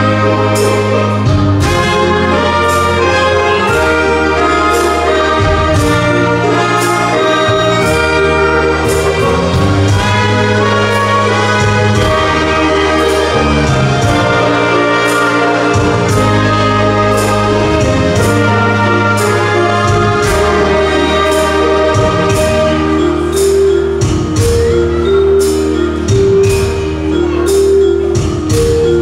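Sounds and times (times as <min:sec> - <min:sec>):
bass line: 0:00.0 - 0:29.0
brass: 0:00.0 - 0:29.0
drums: 0:00.0 - 0:29.0
violin: 0:00.0 - 0:29.0.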